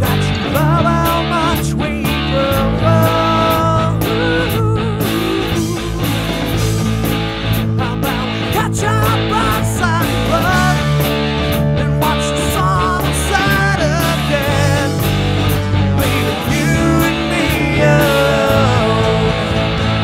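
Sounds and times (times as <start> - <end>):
held bass notes: 0.0 - 20.0
rock guitar melody: 0.0 - 20.0.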